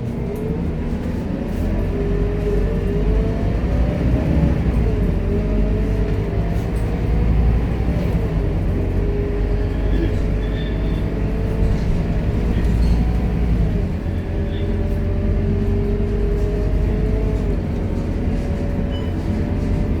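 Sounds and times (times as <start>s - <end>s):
bus engine rumble: 0.0s - 20.0s.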